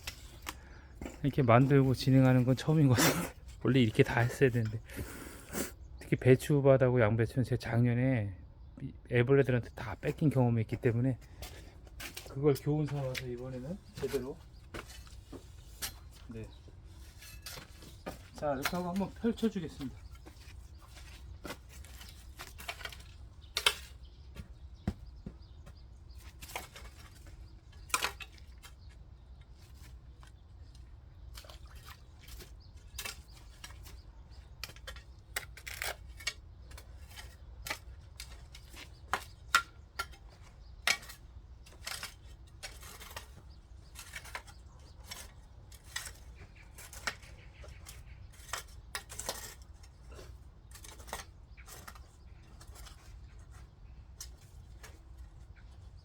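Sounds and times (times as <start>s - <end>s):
hand tool scraping soil: 0.0s - 5.7s, 11.3s - 56.0s.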